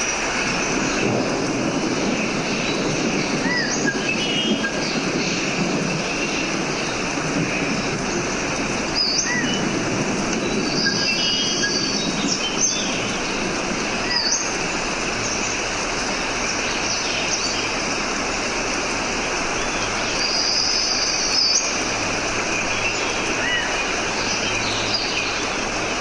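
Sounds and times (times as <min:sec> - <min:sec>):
birds calling and whistling: 0:00.0 - 0:26.0
steady rushing noise: 0:00.0 - 0:26.0.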